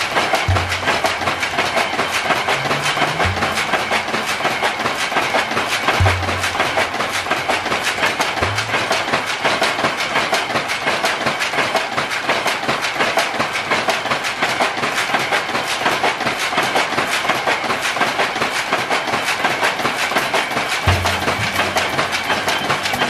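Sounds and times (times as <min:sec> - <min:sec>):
power loom clattering: 0:00.0 - 0:23.0.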